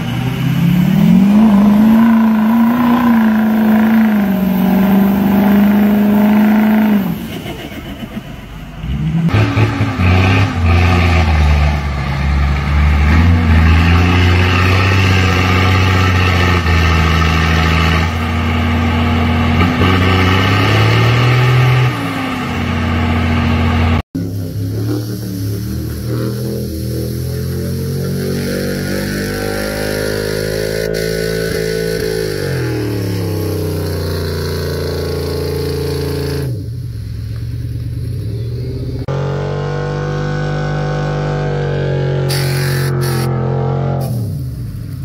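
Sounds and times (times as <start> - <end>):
truck engine labouring: 0.0 - 45.0
truck engine revving: 0.0 - 45.0.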